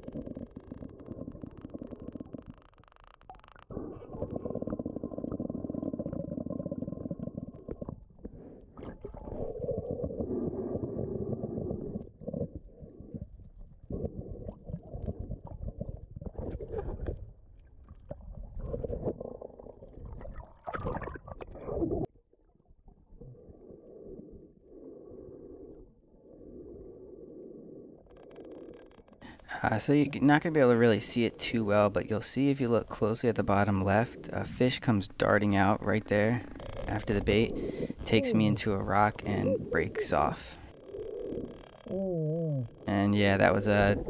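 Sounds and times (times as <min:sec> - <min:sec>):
underwater rumble and gurgle: 0:00.0 - 0:44.0.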